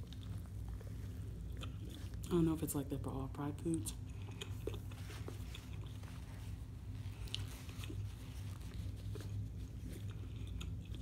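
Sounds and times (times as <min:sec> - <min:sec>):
chewing mouth sounds: 0:00.0 - 0:02.3, 0:03.7 - 0:11.0
steady low hum: 0:00.0 - 0:11.0.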